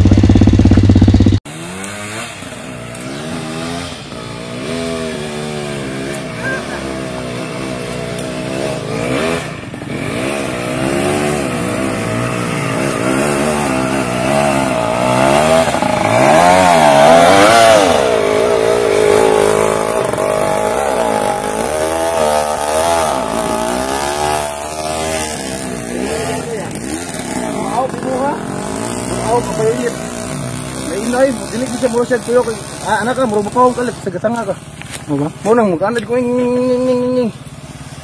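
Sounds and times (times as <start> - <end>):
dirt bike engine revving: 0.0 - 37.8.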